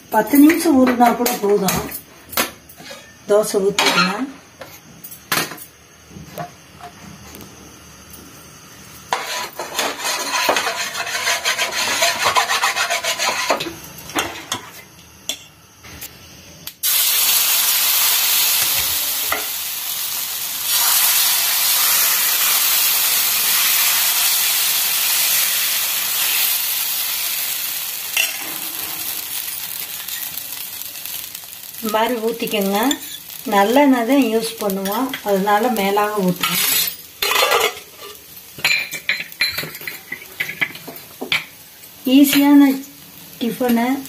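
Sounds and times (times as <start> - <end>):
batter sizzling on hot pan: 7.2 - 44.0.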